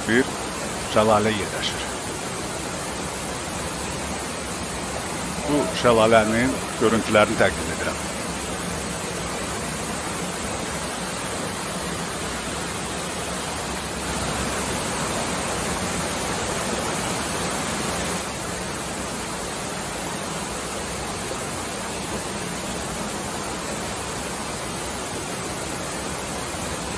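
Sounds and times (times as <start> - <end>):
waterfall and stream rushing: 0.0 - 26.9.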